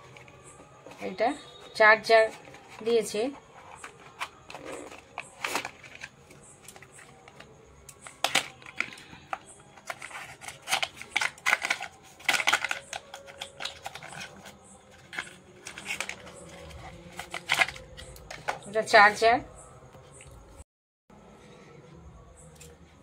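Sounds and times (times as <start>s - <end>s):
plastic rustling: 0.0s - 18.7s
packaging clicks and taps: 0.1s - 18.7s.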